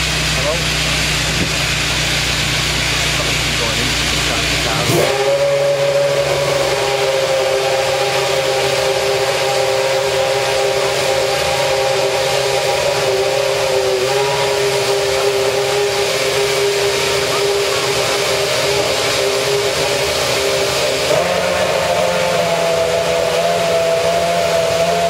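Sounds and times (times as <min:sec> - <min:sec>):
racing car engine idling: 0:00.0 - 0:25.0.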